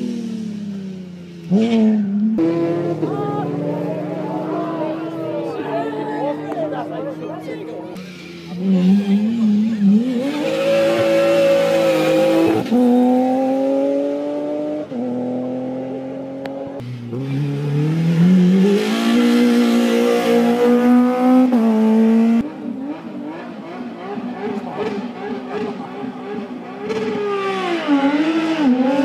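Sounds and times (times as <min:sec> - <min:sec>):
rally car engines accelerating: 0:00.0 - 0:29.0.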